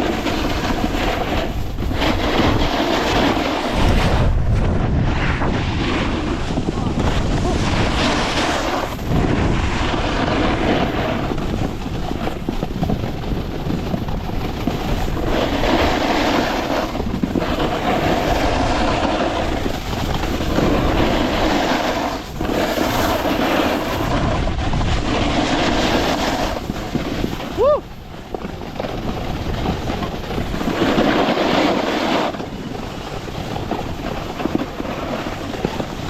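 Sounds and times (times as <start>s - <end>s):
snowboard scraping over snow: 0.0s - 36.0s
wind buffeting microphone: 0.0s - 36.0s.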